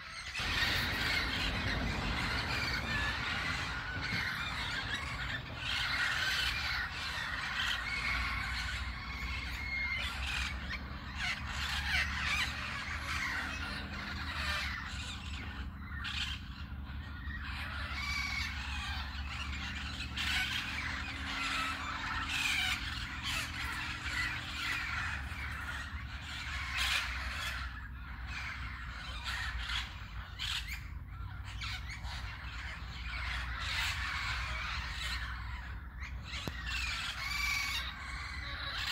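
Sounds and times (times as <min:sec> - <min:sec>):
parakeets squawking and screeching: 0:00.0 - 0:38.9.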